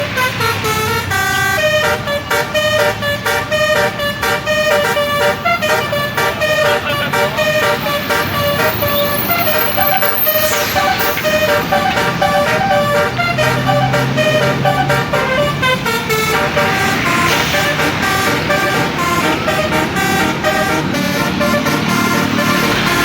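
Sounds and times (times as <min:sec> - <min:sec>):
multi-tone air horn melody: 0:00.0 - 0:23.0.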